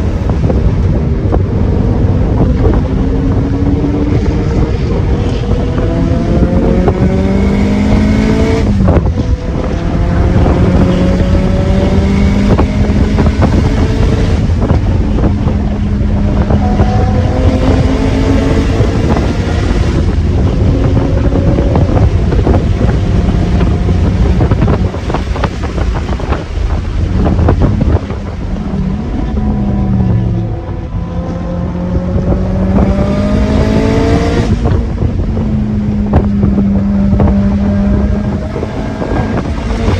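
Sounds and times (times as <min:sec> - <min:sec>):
car engine revving hard: 0:00.0 - 0:39.9
wind noise: 0:00.0 - 0:39.9.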